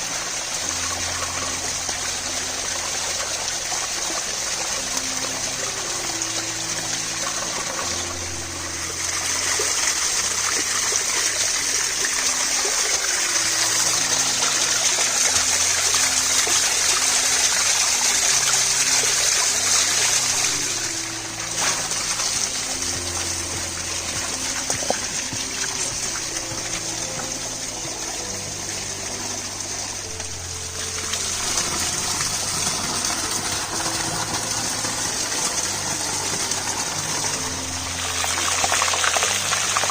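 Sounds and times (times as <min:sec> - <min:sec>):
slow instrumental music: 0:00.0 - 0:39.9
steady hissing noise: 0:00.0 - 0:39.9.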